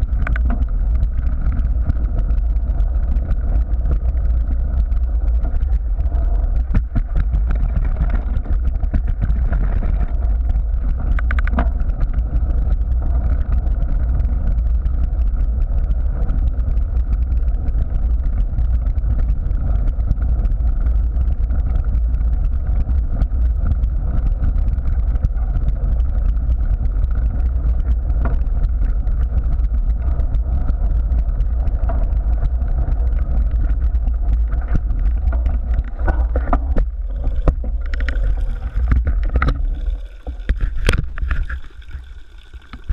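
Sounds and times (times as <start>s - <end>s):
bike frame vibration: 0.0s - 42.9s
bike tyres rolling on gravel: 0.0s - 42.9s
wind on microphone: 0.0s - 42.9s.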